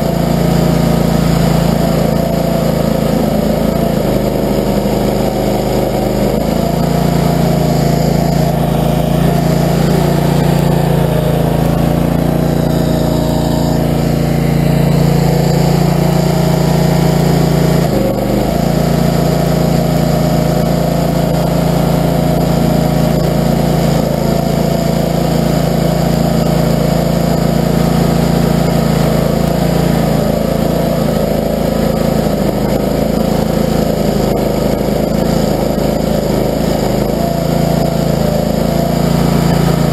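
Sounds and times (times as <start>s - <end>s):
gasoline engine running: 0.0s - 39.9s.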